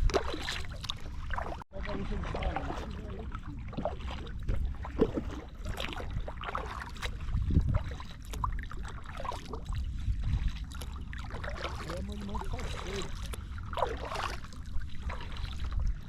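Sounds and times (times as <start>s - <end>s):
steady low rumble: 0.0s - 16.0s
water lapping and trickling: 0.0s - 16.0s.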